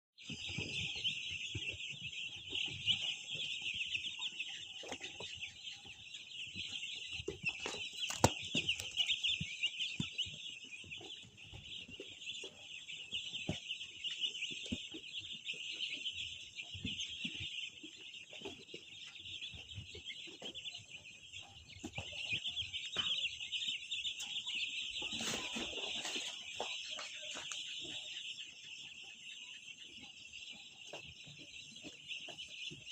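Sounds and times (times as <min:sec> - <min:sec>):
chickens calling: 0:00.2 - 0:32.9.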